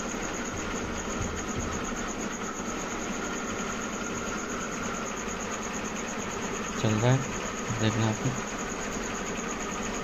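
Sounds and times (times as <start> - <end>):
air compressor running: 0.0 - 10.0.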